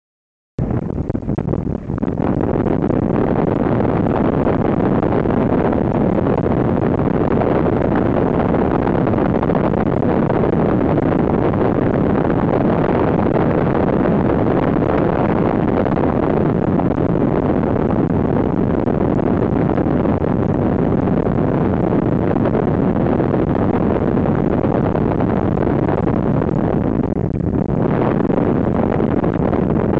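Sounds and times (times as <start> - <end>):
wind noise on microphone: 0.6 - 29.9.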